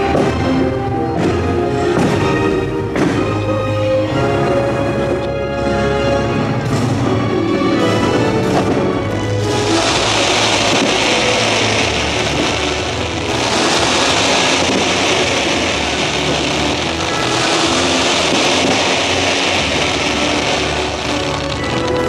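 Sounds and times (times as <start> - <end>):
fireworks hissing and crackling: 0.0 - 3.7, 6.5 - 22.0.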